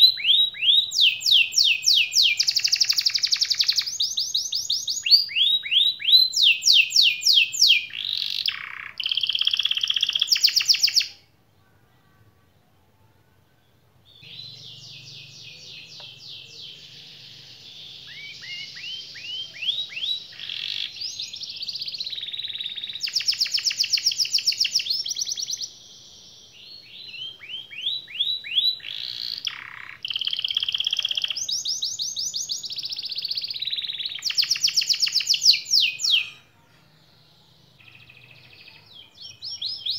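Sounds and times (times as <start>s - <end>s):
canary singing trills: 0.0s - 11.4s, 13.7s - 39.9s.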